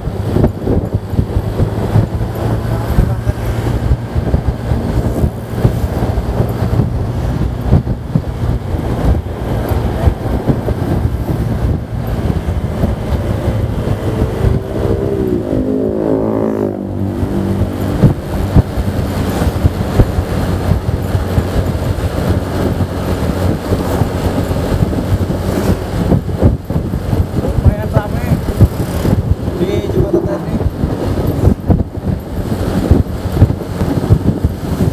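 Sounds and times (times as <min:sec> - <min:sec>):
scooter engine drone: 0:00.0 - 0:34.9
wind buffeting microphone: 0:00.0 - 0:34.9.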